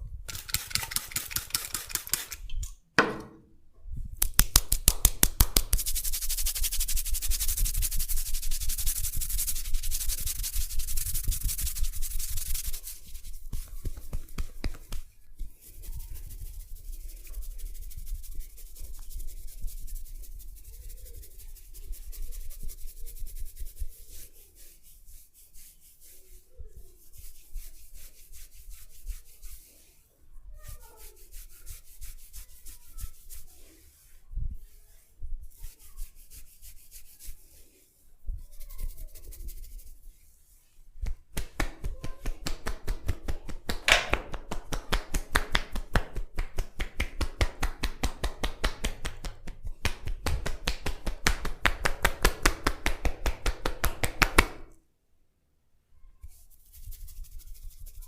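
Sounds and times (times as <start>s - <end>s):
hands rubbing hair and skin: 0.3s - 2.5s, 4.1s - 54.8s, 56.2s - 58.0s.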